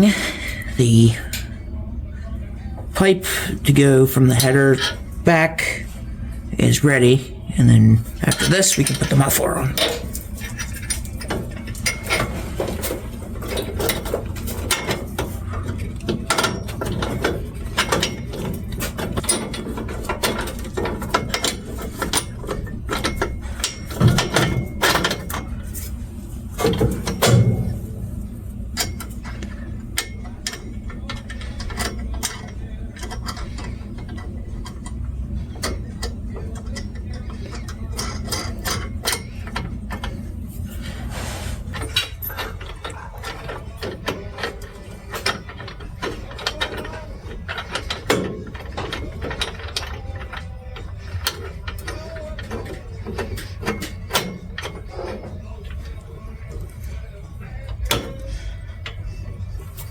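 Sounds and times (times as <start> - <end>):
steady low hum: 0.0 - 59.9
ratchet-like clicking and clanking: 8.2 - 41.0, 41.6 - 59.9.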